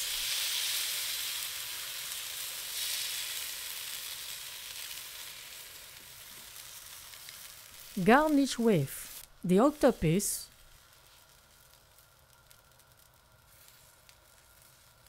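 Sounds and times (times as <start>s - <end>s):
batter sizzling in hot pan: 0.0s - 15.0s.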